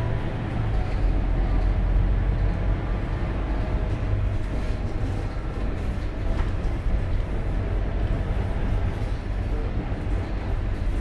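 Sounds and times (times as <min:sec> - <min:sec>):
bus diesel engine droning: 0:00.0 - 0:11.0
road and cabin rattle: 0:00.0 - 0:11.0.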